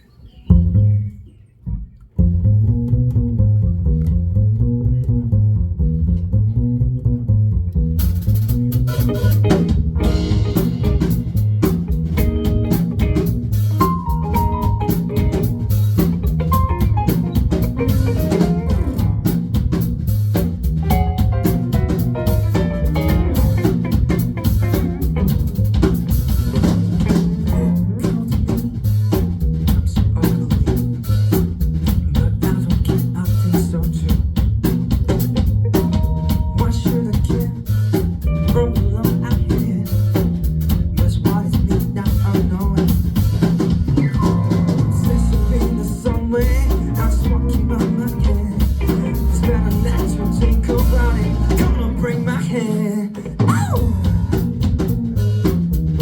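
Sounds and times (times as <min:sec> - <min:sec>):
drums: 0:00.0 - 0:56.0
funk band playing: 0:00.4 - 0:56.0
electric bass riff: 0:00.5 - 0:56.0.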